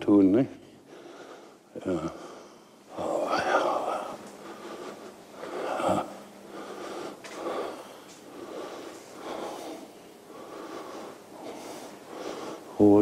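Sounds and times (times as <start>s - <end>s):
faint steady hum: 0.0s - 13.0s
man breathing: 0.6s - 13.0s.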